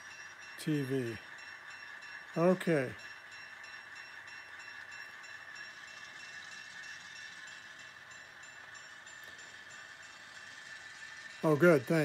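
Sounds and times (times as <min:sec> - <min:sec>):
model locomotive bell ringing: 0:00.0 - 0:12.0.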